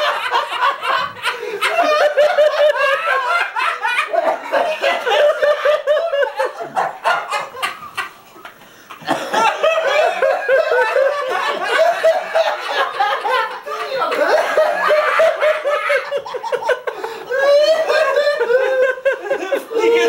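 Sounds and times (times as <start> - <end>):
young men laughing: 0.0 - 20.0.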